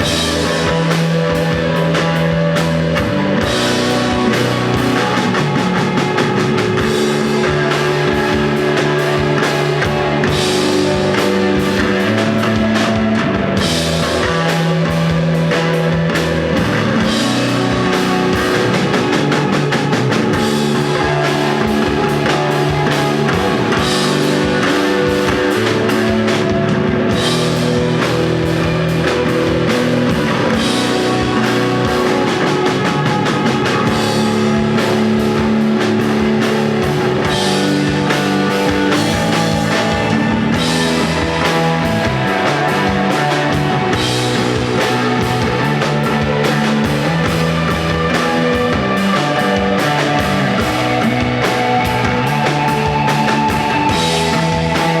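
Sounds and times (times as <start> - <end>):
drum hits and cymbals: 0.0 - 55.0
held bass notes: 0.0 - 55.0
rock band playing: 0.0 - 55.0.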